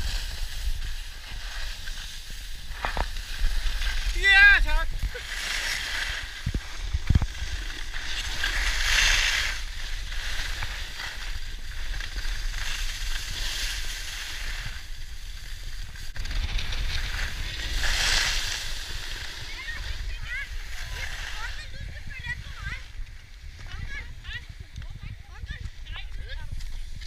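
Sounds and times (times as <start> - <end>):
wind rumble on microphone: 0.0 - 13.4, 14.0 - 27.0
skis scraping over snow: 0.0 - 27.0.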